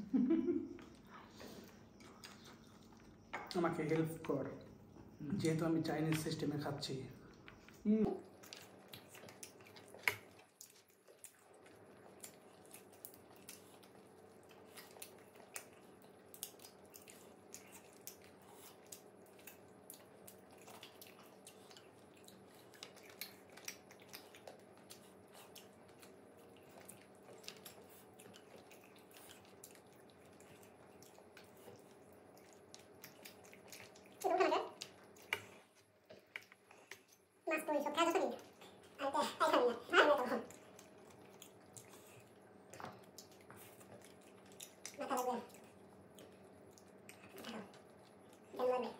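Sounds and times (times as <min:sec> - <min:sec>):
faint steady hum: 0:00.0 - 0:48.9
chewing: 0:00.7 - 0:48.9.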